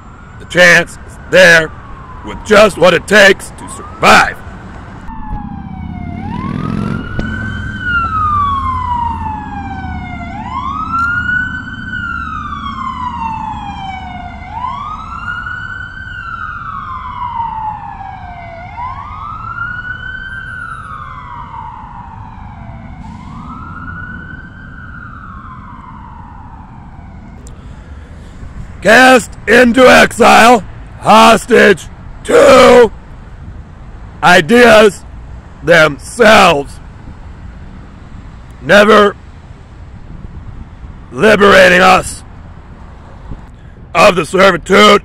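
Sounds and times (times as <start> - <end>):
emergency vehicle siren wailing: 0.0 - 42.3
low traffic rumble: 0.0 - 45.0.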